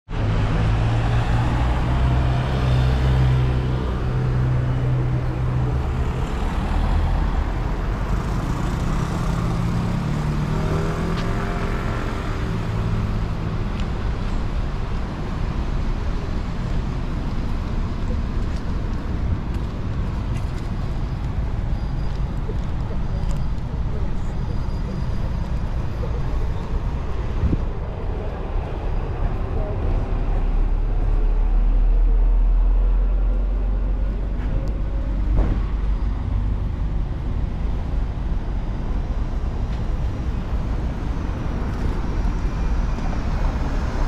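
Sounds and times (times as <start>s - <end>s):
traffic noise: 0.1s - 44.0s
vehicle engine humming: 0.1s - 44.0s.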